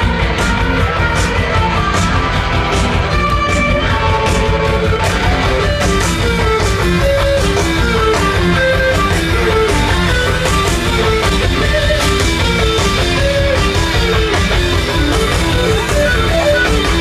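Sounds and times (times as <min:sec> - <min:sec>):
electric guitar riff: 0:00.0 - 0:17.0
rock band playing live: 0:00.0 - 0:17.0.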